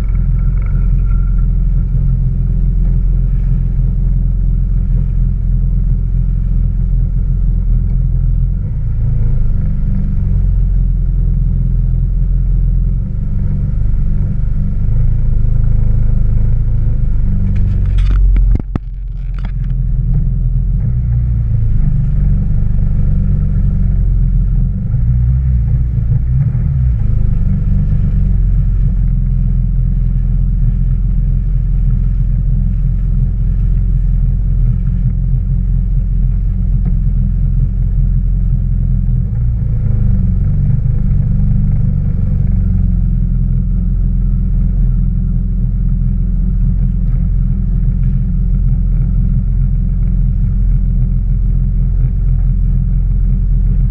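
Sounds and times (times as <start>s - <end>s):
watercraft engine rumbling: 0.0s - 53.9s.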